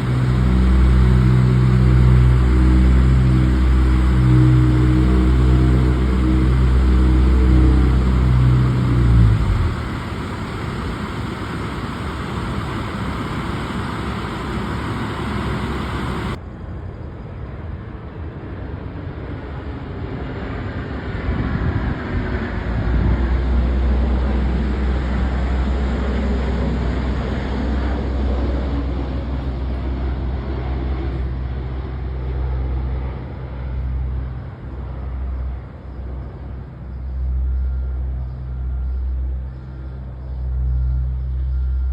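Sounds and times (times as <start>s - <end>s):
low engine drone: 0.0s - 16.8s, 18.2s - 41.9s
vehicle engines and road noise: 0.0s - 41.9s.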